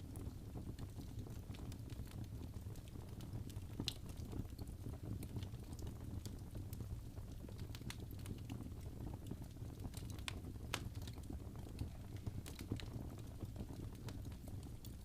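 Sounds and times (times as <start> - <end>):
fire pops and snaps: 0.0 - 15.0
low rumble of flames: 0.0 - 15.0.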